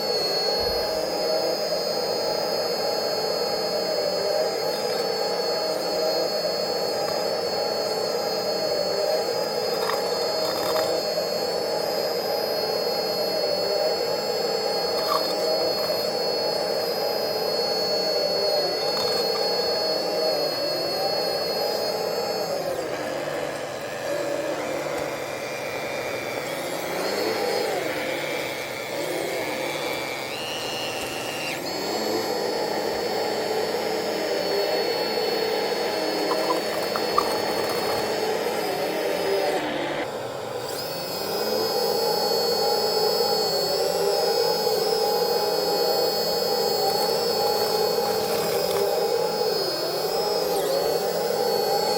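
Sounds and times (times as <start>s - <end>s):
electric hydraulic pumps whining: 0.0s - 51.9s.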